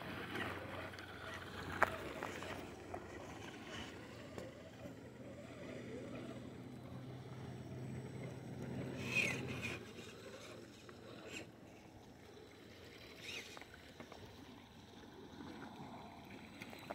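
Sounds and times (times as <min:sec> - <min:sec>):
toy car electric motor hum: 0:00.0 - 0:16.9.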